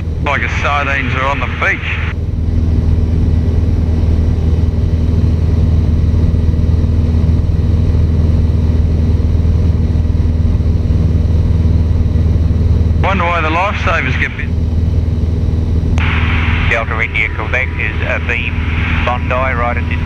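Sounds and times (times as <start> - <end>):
small plane engine droning: 0.0 - 20.0.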